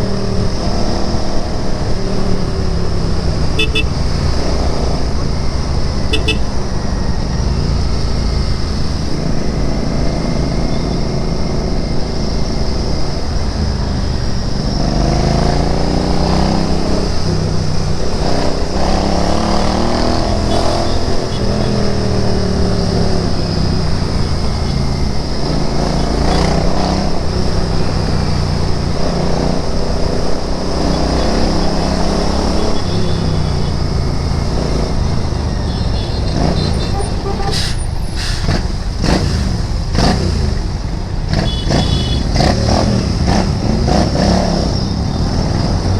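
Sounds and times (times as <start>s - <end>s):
motorcycle engine accelerating: 0.0s - 37.3s, 38.5s - 45.9s.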